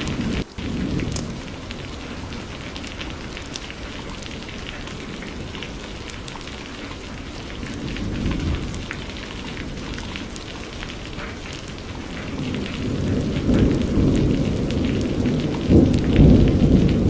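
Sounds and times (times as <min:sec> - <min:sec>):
low rumble of thunder: 0:00.0 - 0:17.0
raindrops ticking on a surface: 0:00.0 - 0:17.0
steady rain falling: 0:00.0 - 0:17.0.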